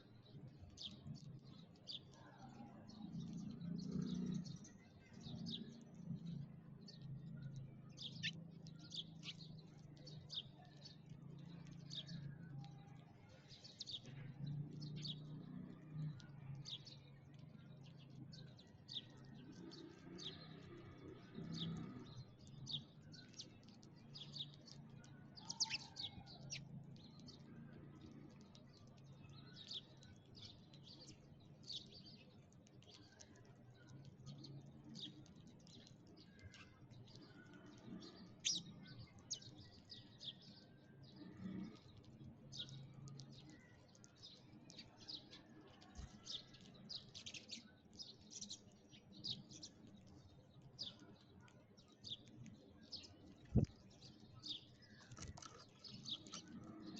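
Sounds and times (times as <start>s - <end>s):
sparrows chirping: 0.0s - 56.9s.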